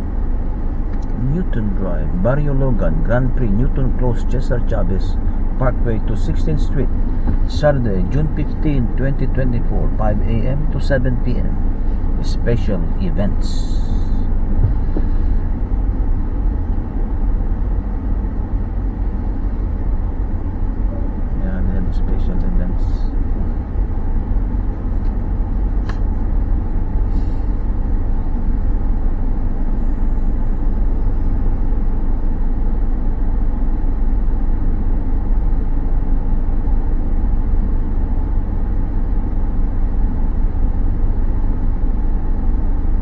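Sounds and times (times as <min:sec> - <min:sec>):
car engine and tyre noise: 0:00.0 - 0:43.0.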